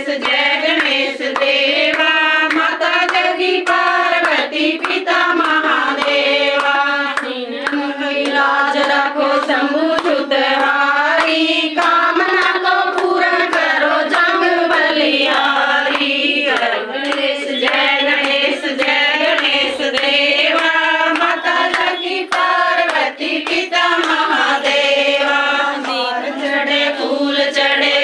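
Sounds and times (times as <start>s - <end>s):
hands clapping in time: 0.0s - 28.0s
women singing devotional song: 0.0s - 28.0s.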